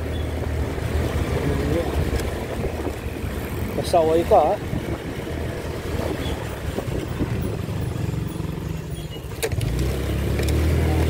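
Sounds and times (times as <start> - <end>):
road and wind noise: 0.0 - 11.0
small motorcycle engine running: 0.0 - 11.0.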